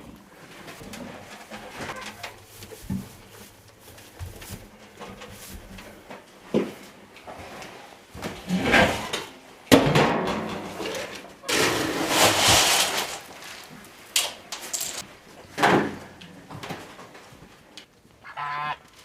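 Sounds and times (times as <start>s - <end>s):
rustling and scraping: 0.0s - 9.4s, 10.5s - 18.0s.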